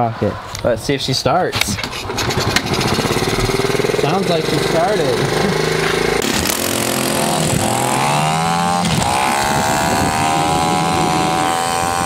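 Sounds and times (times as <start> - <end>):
small engine accelerating: 1.9 - 12.0.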